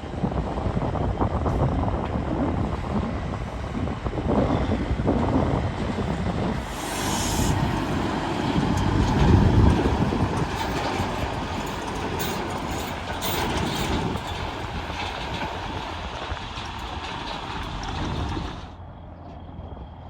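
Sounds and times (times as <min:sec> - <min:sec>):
rumbling vehicle noise: 0:00.0 - 0:20.0.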